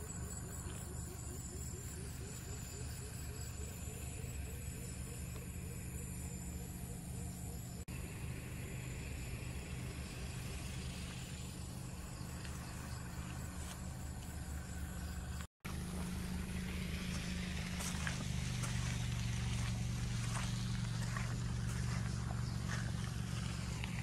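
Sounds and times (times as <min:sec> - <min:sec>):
faint rhythmic chirping: 0:00.0 - 0:15.5, 0:16.2 - 0:24.0
low outdoor rumble: 0:00.0 - 0:24.0.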